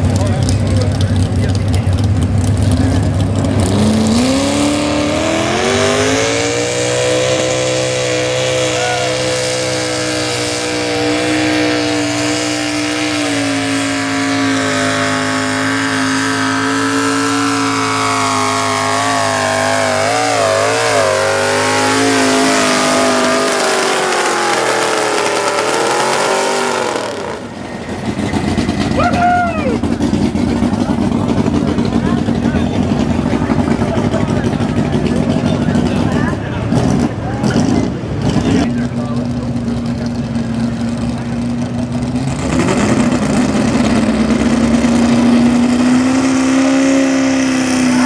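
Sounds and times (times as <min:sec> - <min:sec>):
pulling truck engine revving: 0:00.0 - 0:48.0.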